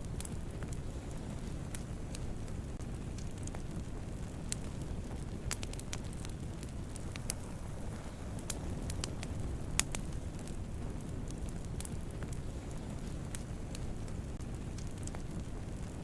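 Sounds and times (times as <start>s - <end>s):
campfire burning with crackles: 0.0s - 16.0s.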